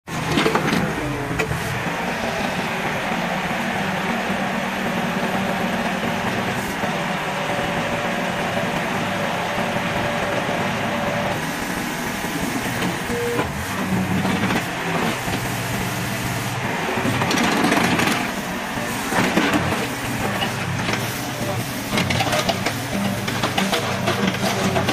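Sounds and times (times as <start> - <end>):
excavator diesel engine running: 0.1 - 24.9
hydraulics working: 0.1 - 24.9.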